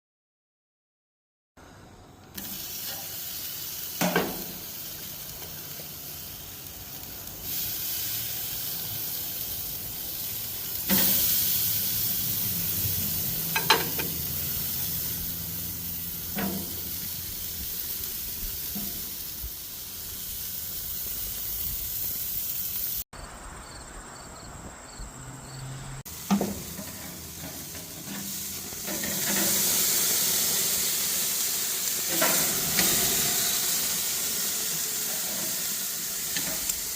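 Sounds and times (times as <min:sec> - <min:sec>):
meat sizzling on a grill: 0:02.4 - 0:23.1, 0:26.0 - 0:36.9.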